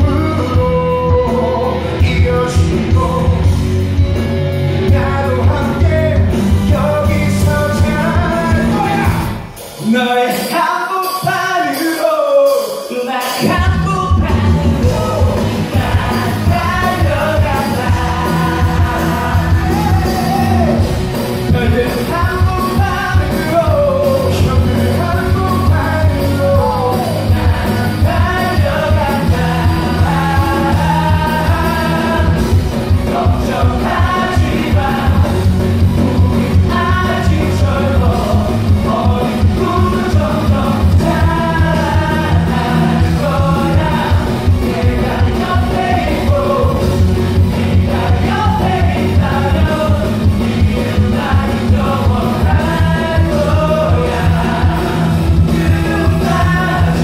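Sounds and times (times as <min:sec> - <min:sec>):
live rock band playing: 0:00.0 - 0:57.0
man singing: 0:00.0 - 0:57.0.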